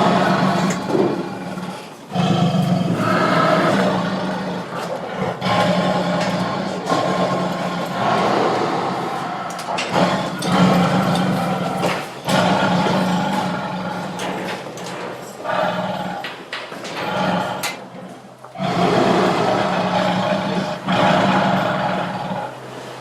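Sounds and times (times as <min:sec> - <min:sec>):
tiger roaring: 0:00.0 - 0:23.0.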